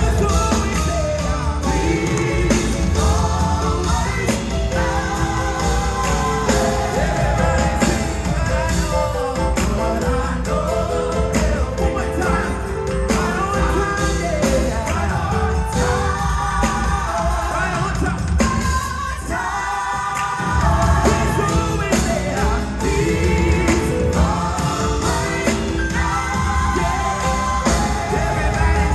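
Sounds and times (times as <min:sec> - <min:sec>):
band playing: 0:00.0 - 0:28.9
steady drum beat: 0:00.0 - 0:28.9
voices singing gospel: 0:00.0 - 0:28.9.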